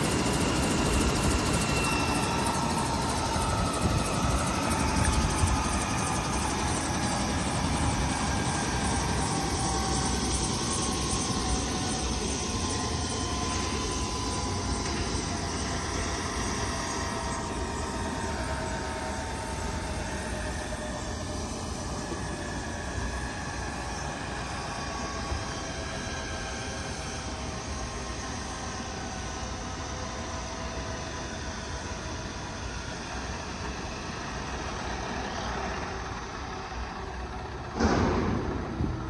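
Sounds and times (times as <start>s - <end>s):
helicopter rotor rush: 0.0s - 39.0s
helicopter turbine whine: 0.0s - 39.0s.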